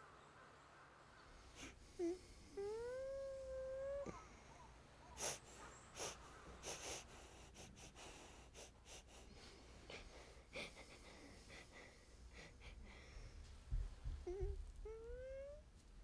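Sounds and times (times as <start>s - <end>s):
person breathing faintly: 1.4s - 3.2s, 3.9s - 15.2s.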